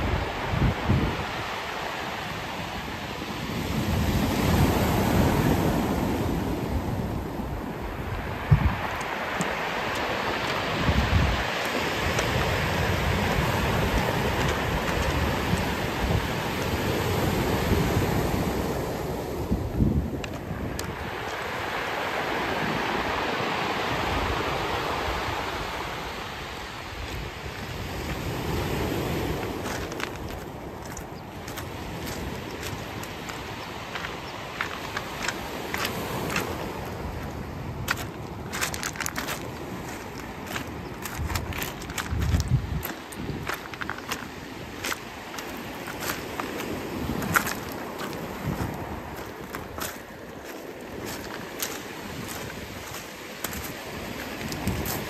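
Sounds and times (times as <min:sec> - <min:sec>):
wind buffeting microphone: 0:00.0 - 0:01.5, 0:02.8 - 0:21.8, 0:22.5 - 0:55.0
surf washing up pebble beach: 0:00.0 - 0:55.0.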